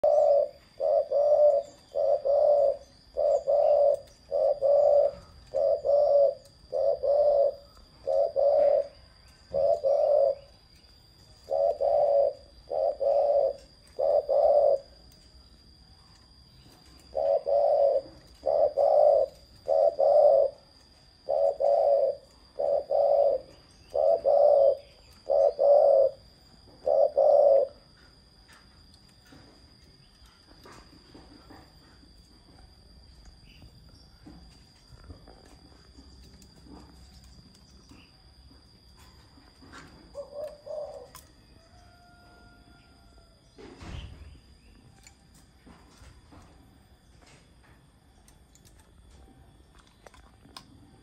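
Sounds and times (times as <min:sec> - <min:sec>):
dove cooing: 0:00.0 - 0:32.8, 0:33.4 - 0:44.2.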